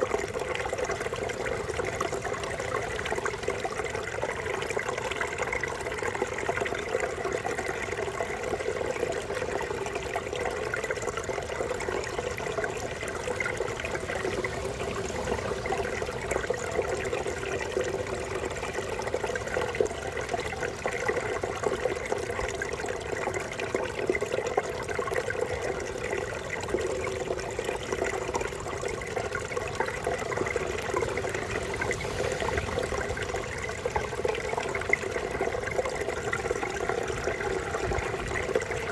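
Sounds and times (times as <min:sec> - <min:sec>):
brook water running and gurgling: 0:00.0 - 0:38.9.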